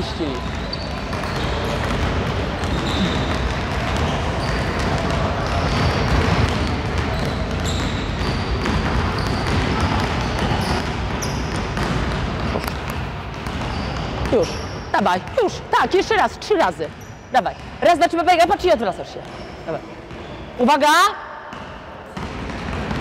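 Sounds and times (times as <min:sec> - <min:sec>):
shoe squeaks: 0:00.0 - 0:16.2, 0:16.8 - 0:20.8
basketballs bouncing on gym floor: 0:00.0 - 0:23.0.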